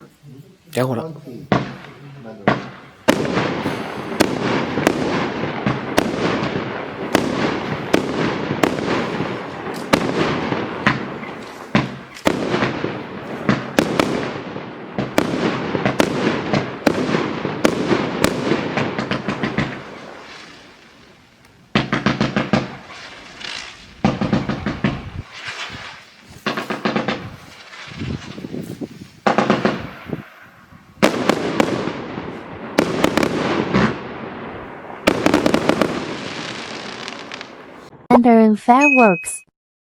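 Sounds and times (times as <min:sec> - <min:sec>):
rapid fireworks crackle: 0:00.8 - 0:38.1
fireworks cake firing sharp cracks: 0:01.5 - 0:37.9.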